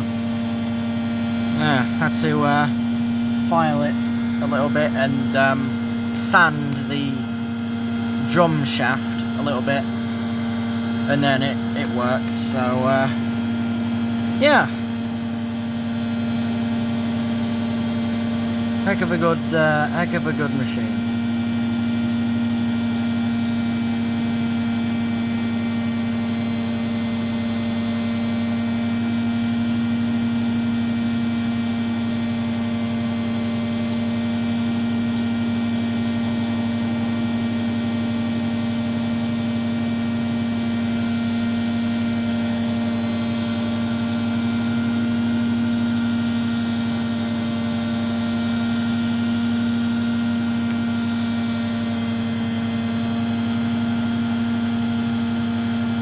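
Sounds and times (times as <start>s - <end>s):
washing machine spinning: 0.0s - 6.5s, 7.1s - 19.5s, 20.9s - 56.0s.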